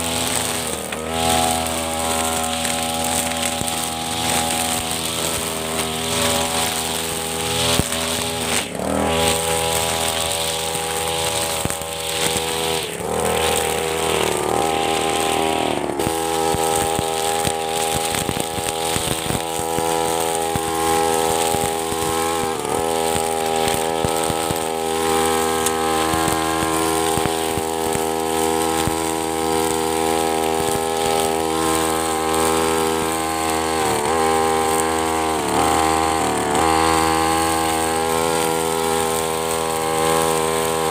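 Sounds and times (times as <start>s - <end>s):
brush cutter engine running: 0.0s - 40.9s
metal blade cutting grass: 0.0s - 40.9s.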